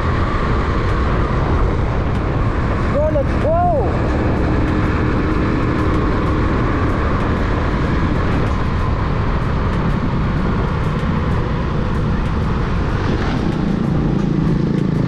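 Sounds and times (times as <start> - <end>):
motorcycle engine running: 0.0 - 15.0
road noise: 0.0 - 15.0
wind rush: 0.0 - 15.0.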